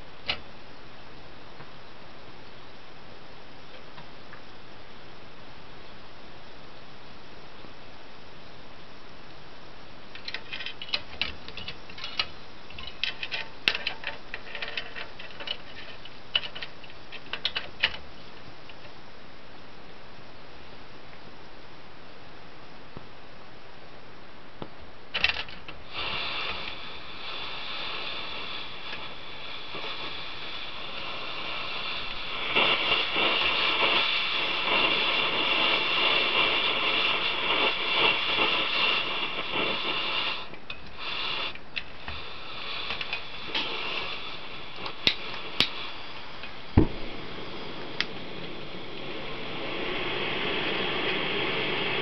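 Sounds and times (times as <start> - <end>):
stove burner hissing: 0.0 - 22.2, 24.6 - 52.0.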